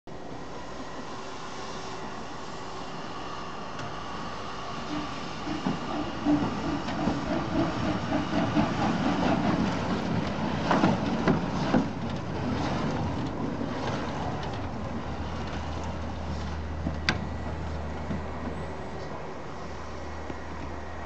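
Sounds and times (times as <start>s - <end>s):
steam locomotive chuffing: 0.5s - 18.7s.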